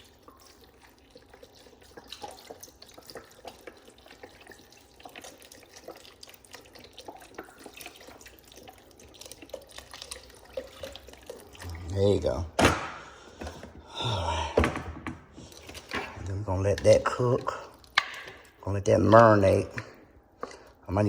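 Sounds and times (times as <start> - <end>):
water trickling and splashing: 0.0 - 14.2, 15.2 - 21.0.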